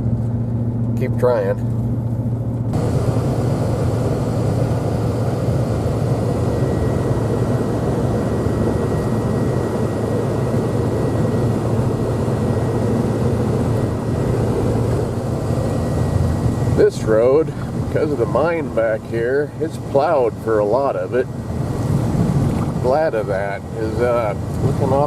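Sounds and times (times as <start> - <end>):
tire and road noise: 0.0 - 25.0
truck engine hum: 0.0 - 25.0
faint high whine: 2.8 - 25.0.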